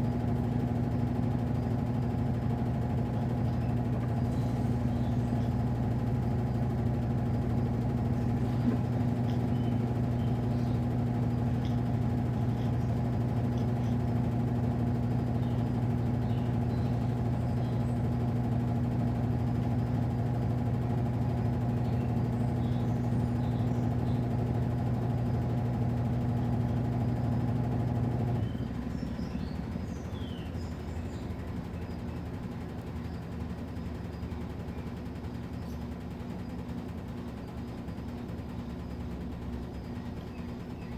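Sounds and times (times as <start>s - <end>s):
washing machine motor humming: 0.0s - 40.9s.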